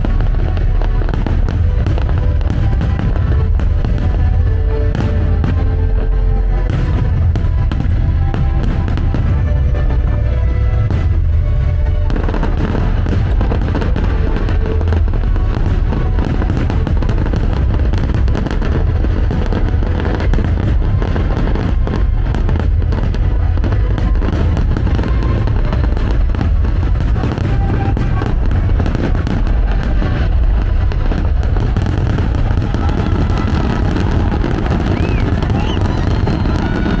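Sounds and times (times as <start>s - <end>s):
fireworks bursting and crackling: 0.0s - 37.0s
music with heavy bass: 0.0s - 37.0s.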